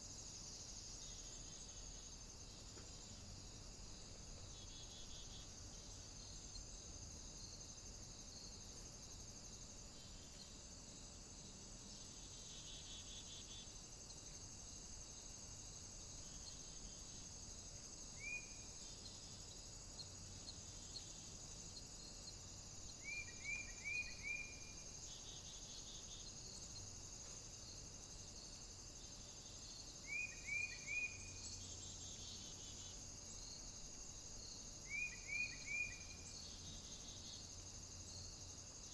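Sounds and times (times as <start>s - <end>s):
steady high hiss: 0.0s - 38.9s.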